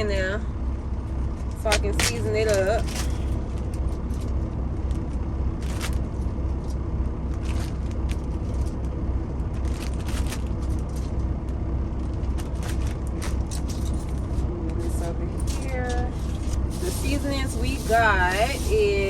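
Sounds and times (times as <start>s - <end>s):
truck engine rumbling: 0.0s - 19.0s
plastic bag crinkling: 2.0s - 19.0s.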